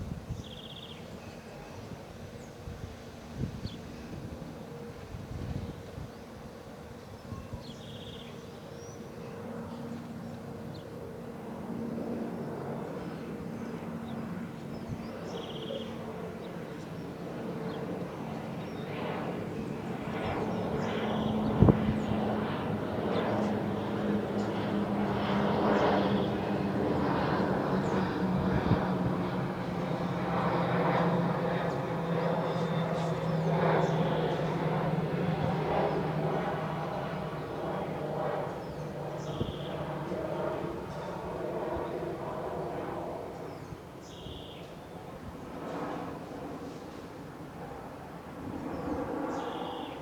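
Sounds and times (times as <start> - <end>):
jet engines droning: 0.0 - 50.0.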